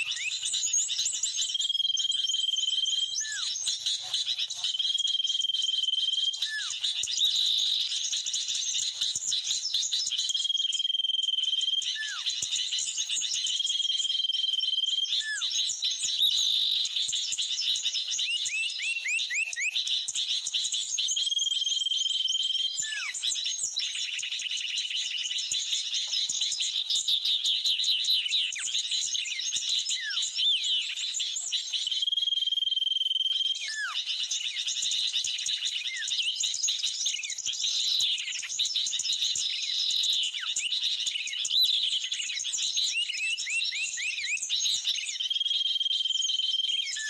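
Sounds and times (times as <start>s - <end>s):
bird whistling calls: 0.0s - 8.9s, 9.9s - 19.9s, 21.1s - 26.6s, 28.2s - 34.7s, 35.5s - 36.5s, 39.5s - 47.0s.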